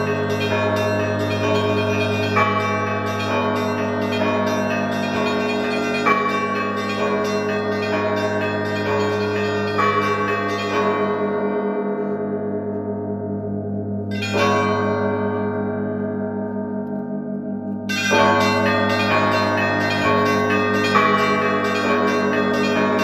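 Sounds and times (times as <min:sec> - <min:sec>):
deep bell tone: 0:00.0 - 0:23.0
higher bells striking: 0:00.0 - 0:23.0
middle bells ringing: 0:00.0 - 0:23.0.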